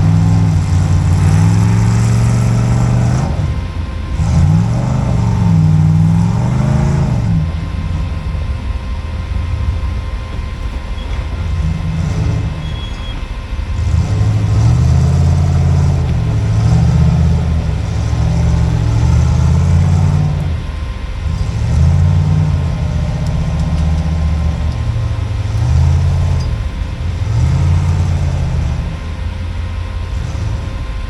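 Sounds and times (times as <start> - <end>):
engine revving: 0.0 - 31.0.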